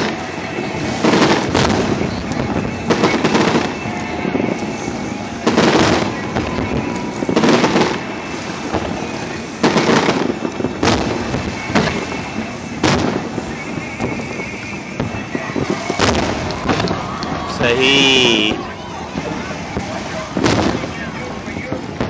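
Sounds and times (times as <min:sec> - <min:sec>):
background haze: 0:00.0 - 0:22.0
firework shells booming: 0:00.0 - 0:22.0.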